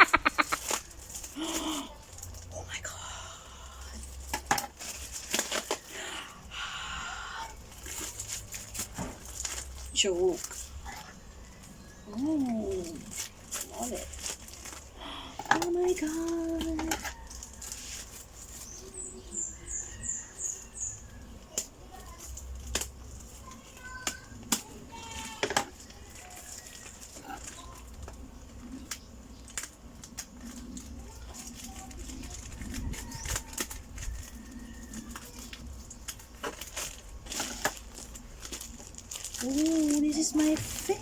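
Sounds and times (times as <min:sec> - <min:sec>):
plastic and fabric rustling: 0:00.0 - 0:02.6, 0:04.0 - 0:06.5, 0:07.4 - 0:41.0.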